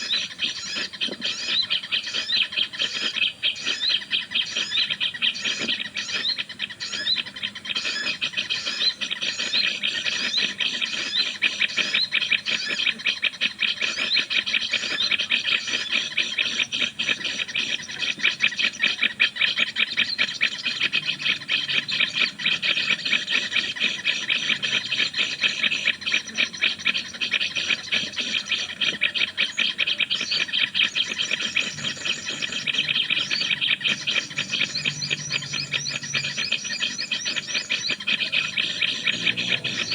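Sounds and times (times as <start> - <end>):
bird chattering rapidly: 0.0 - 39.9.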